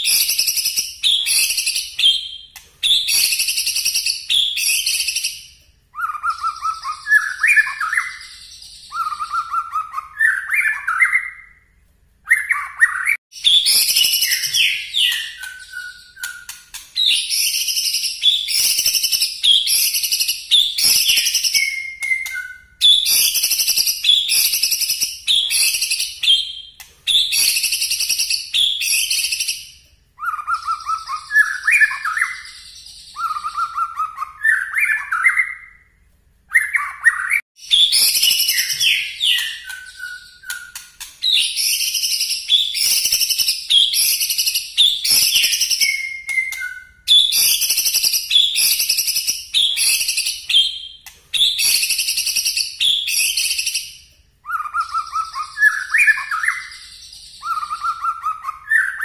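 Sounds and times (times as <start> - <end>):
bird singing rapid high phrases: 0.0 - 35.9, 36.5 - 59.0.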